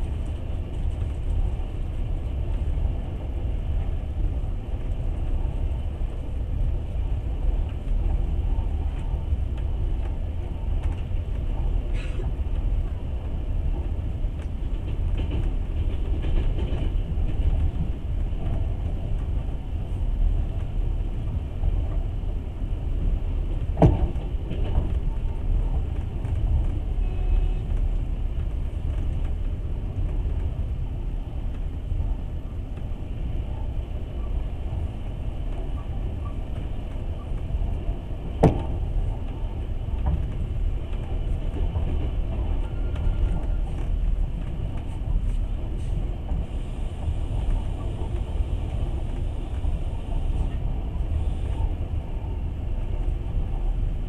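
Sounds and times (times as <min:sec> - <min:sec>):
train rumbling inside carriage: 0:00.0 - 0:54.0.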